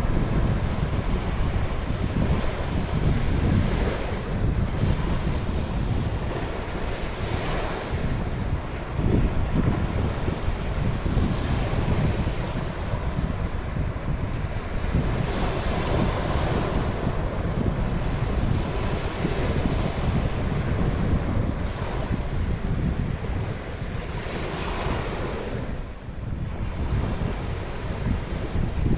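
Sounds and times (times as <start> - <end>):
sea surf washing onto beach: 0.0 - 28.9
wind rumbling on microphone: 0.0 - 28.9.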